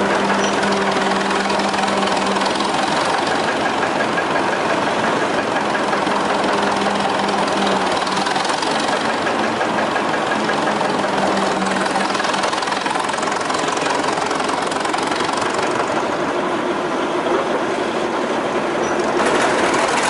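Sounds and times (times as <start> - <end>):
gas engine running with knock: 0.0 - 16.2.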